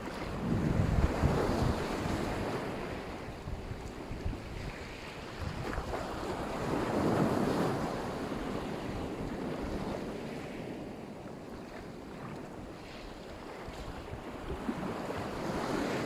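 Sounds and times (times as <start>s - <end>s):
surf washing onto shore: 0.0s - 16.0s
wind rumble on microphone: 0.0s - 16.0s.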